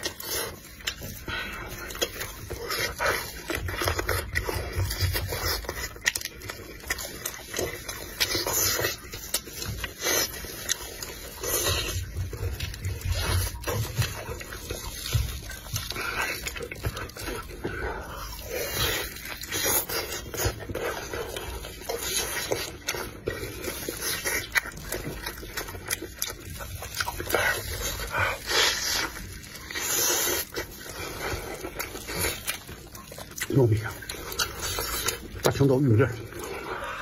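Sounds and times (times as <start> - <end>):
wet chewing and lip-smacking: 0.0 - 37.0.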